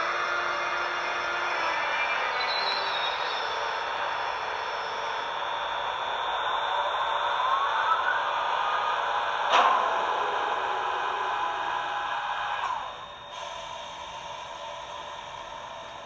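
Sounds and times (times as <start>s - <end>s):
electric locomotive converter whine: 0.0s - 16.0s.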